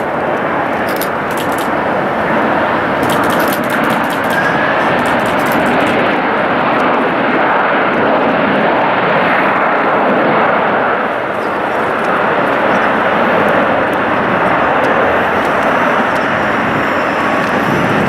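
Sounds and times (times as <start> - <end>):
faint gliding whine: 0.0 - 7.1, 9.5 - 18.0
jet engines rushing: 0.0 - 18.0.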